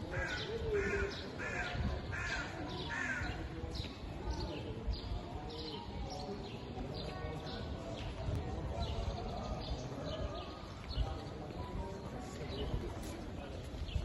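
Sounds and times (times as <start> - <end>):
murmur of distant voices: 0.0 - 14.0.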